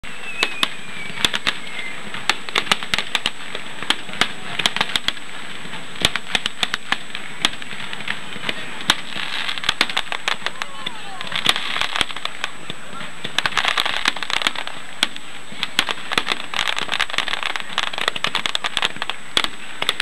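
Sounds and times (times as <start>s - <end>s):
background hiss: 0.0s - 20.0s
firework bangs: 0.0s - 20.0s
crackling firework pops: 0.1s - 20.0s.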